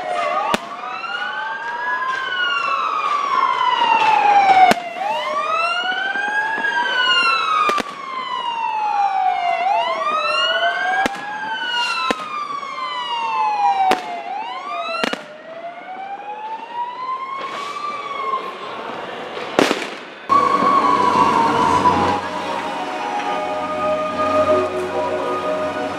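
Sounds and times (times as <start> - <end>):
fire engine sirens wailing: 0.0 - 25.9
fireworks bangs: 0.1 - 8.6, 10.1 - 15.6, 17.4 - 18.1, 19.2 - 25.9.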